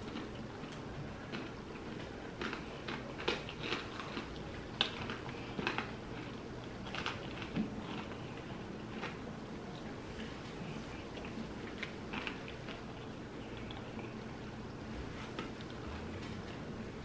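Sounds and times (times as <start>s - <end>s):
chewing crunchy fries: 0.0s - 16.7s.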